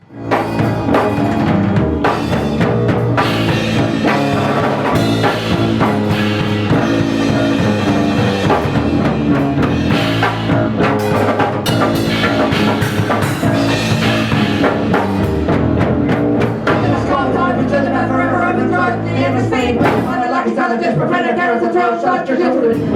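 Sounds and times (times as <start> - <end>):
drum kit: 0.0 - 20.4
electric bass guitar: 0.0 - 20.4
punk rock music: 0.0 - 20.6.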